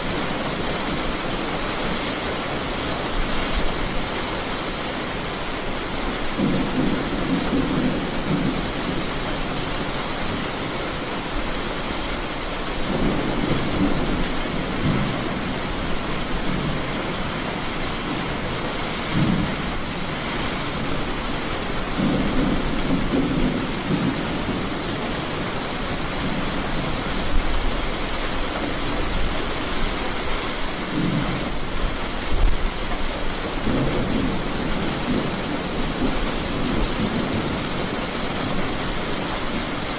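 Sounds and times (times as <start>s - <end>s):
steady rain: 0.0s - 39.9s
thunder rumbling: 6.1s - 29.5s, 30.6s - 39.9s.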